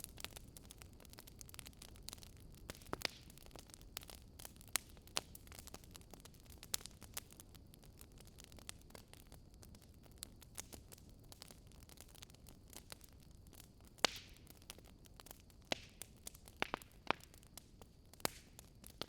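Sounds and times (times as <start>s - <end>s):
soft steady hiss: 0.0s - 19.0s
wood fire crackling: 0.0s - 19.0s.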